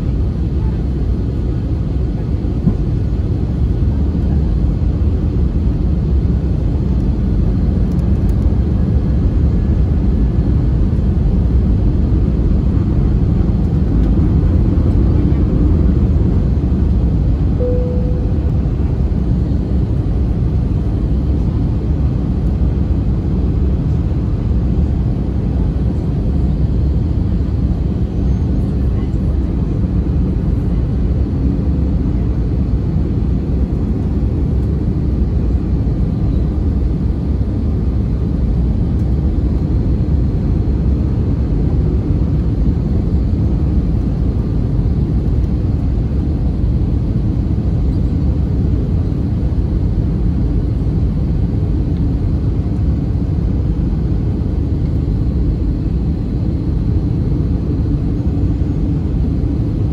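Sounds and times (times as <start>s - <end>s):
low drone of jet engines: 0.0s - 59.9s.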